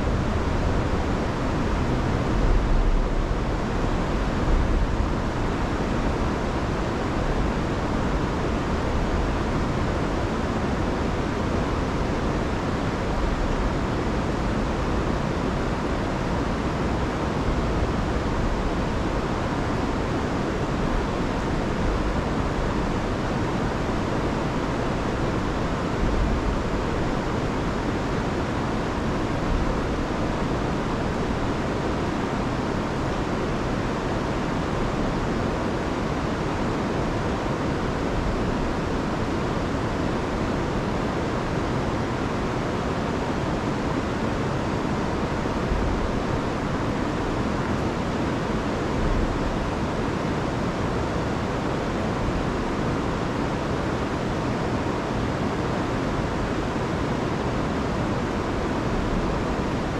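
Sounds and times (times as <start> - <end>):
river rushing over waterfalls: 0.0 - 59.9.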